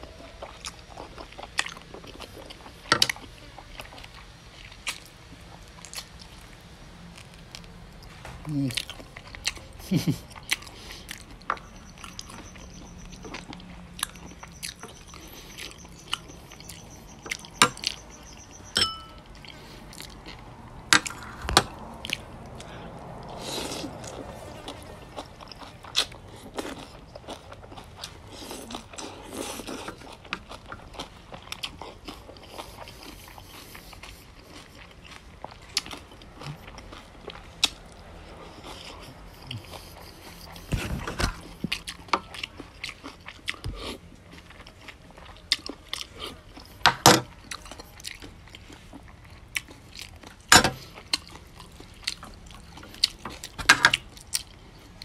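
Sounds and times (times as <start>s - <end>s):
chewing and smacking: 0.0s - 55.0s.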